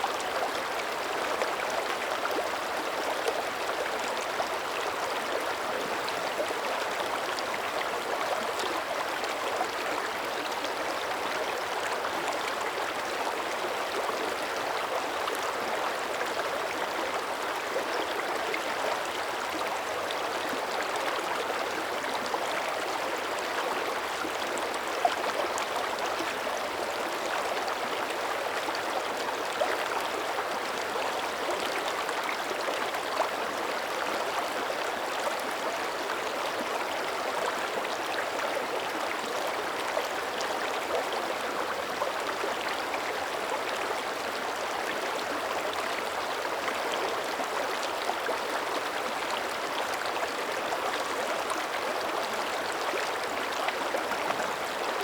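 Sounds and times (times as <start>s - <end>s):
creek running over rocks: 0.0s - 55.0s.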